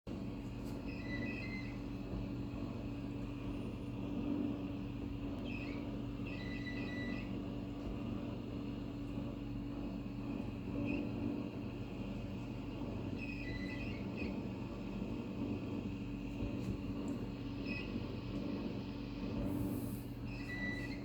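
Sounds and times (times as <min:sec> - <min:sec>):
dishwasher humming: 0:00.1 - 0:21.0.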